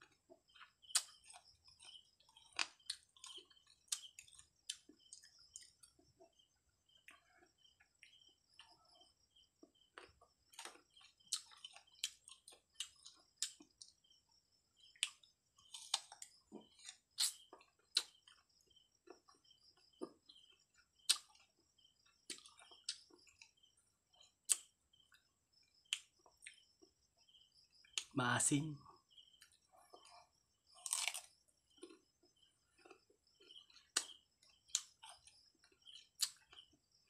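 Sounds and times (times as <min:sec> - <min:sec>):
person chewing crunchy mango: 0:00.0 - 0:27.0, 0:29.0 - 0:37.0.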